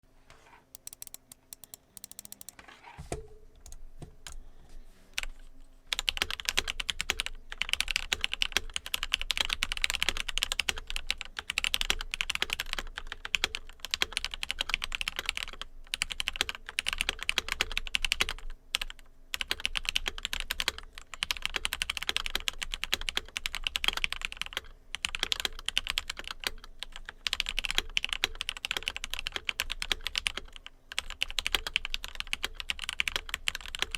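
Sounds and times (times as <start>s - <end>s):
mechanical keyboard typing: 0.8s - 2.6s, 5.9s - 33.9s.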